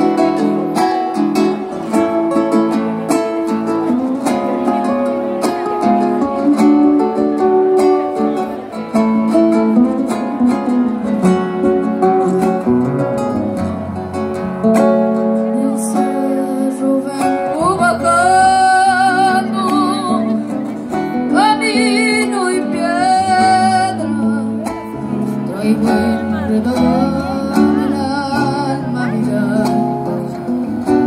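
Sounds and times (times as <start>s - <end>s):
strummed acoustic guitars: 0.0s - 31.0s.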